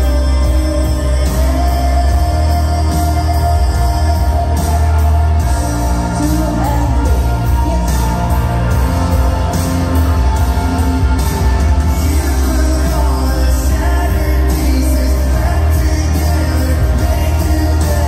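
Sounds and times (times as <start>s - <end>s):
line-dance song with singer: 0.0s - 18.0s.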